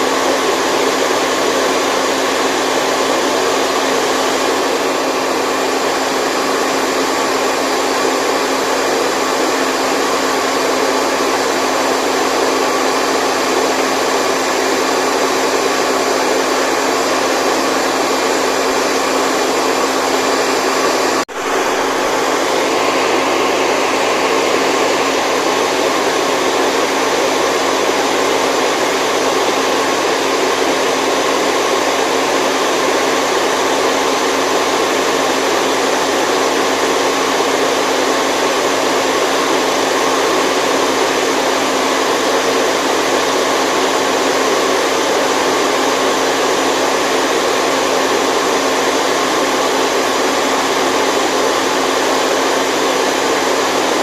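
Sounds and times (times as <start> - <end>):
rushing white noise: 0.0 - 54.0.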